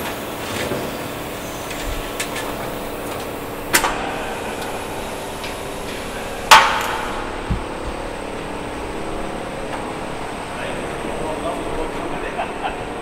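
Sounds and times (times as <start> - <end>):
workshop hum: 0.0 - 13.0.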